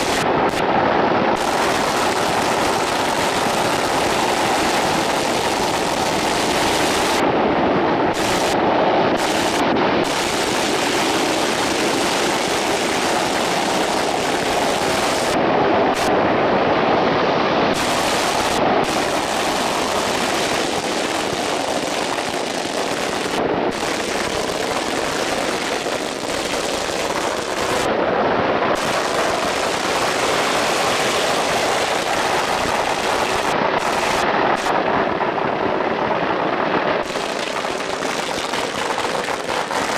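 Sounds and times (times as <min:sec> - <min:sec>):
firecrackers crackling: 0:00.0 - 0:16.4, 0:17.3 - 0:39.9.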